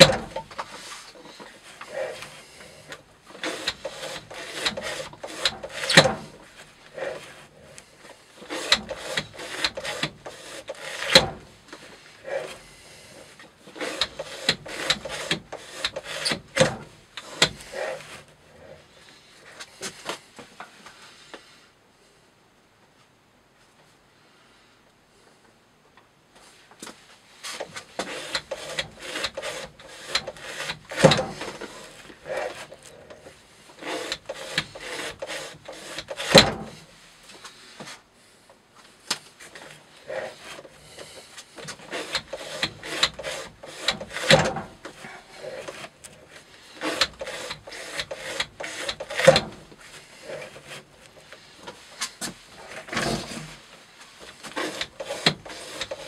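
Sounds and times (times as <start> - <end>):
rope scraping through metal guide: 0.0 - 20.2, 27.3 - 38.0, 39.4 - 56.0.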